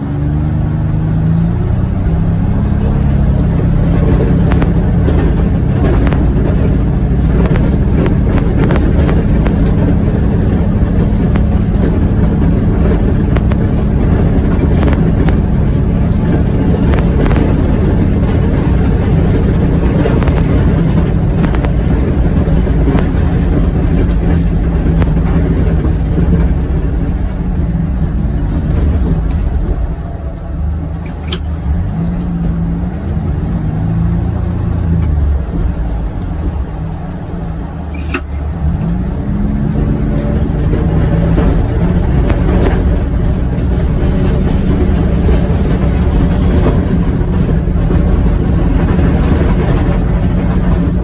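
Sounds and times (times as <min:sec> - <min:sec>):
utility vehicle engine under load: 0:00.0 - 0:51.0.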